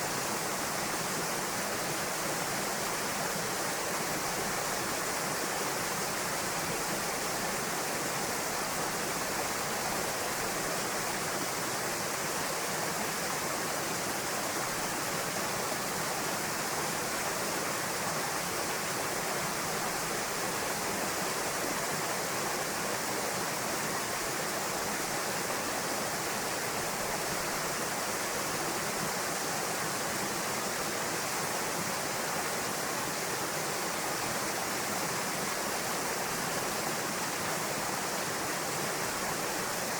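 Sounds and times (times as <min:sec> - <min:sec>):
waterfall rushing into pool: 0:00.0 - 0:39.9.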